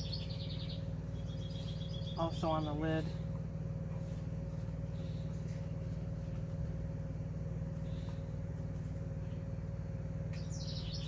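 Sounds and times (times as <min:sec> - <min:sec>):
low mechanical hum: 0:00.0 - 0:11.0
thin constant whine: 0:00.0 - 0:11.0.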